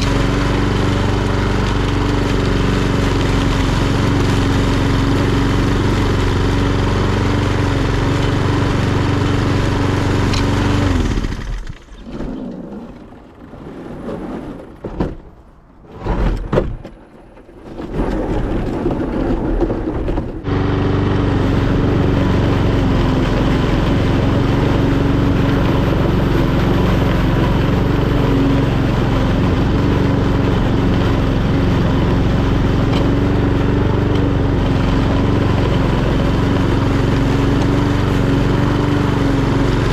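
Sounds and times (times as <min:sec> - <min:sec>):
lawnmower engine running: 0:00.0 - 0:13.7, 0:17.6 - 0:39.9.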